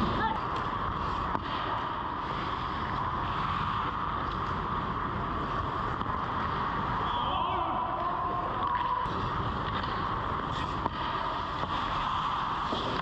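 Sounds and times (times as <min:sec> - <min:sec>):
ice rink hum and rumble: 0:00.0 - 0:13.0.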